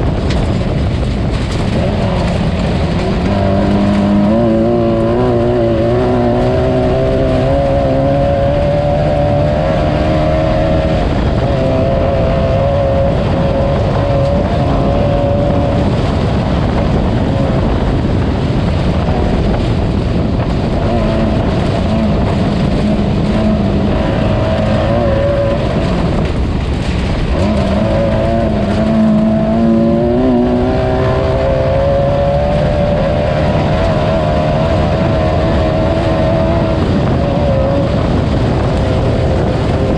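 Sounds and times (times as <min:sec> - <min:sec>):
driving noise rush: 0:00.0 - 0:39.9
race car engine revving: 0:00.0 - 0:39.9.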